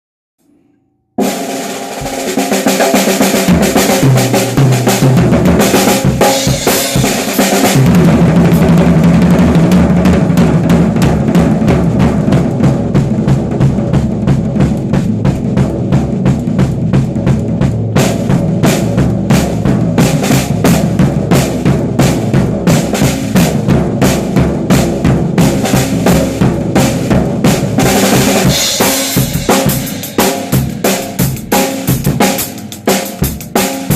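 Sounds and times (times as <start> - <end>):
music with drum kit beat: 1.2 - 33.9.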